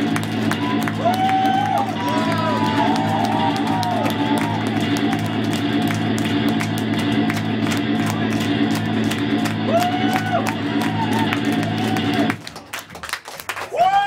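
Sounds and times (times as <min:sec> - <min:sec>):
rock band droning on one chord: 0:00.0 - 0:12.4
audience whooping: 0:00.0 - 0:12.8, 0:13.5 - 0:14.0
audience clapping: 0:00.0 - 0:14.0.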